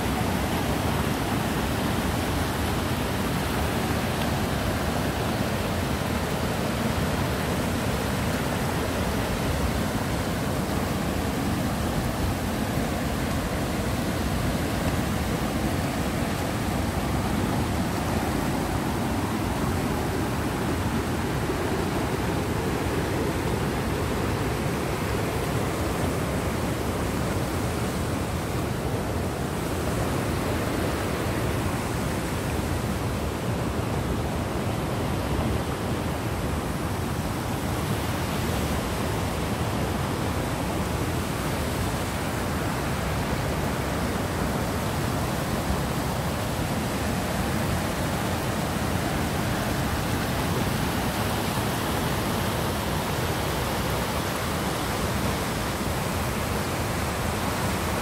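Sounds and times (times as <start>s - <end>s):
river rapids rushing over rocks: 0.0s - 58.0s.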